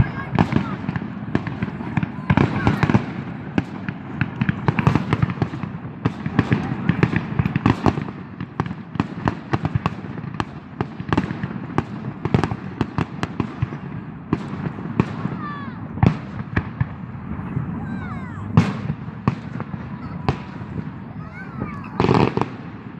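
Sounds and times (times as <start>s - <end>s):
distant fireworks rumble: 0.0s - 22.9s
firecrackers banging: 0.0s - 22.9s.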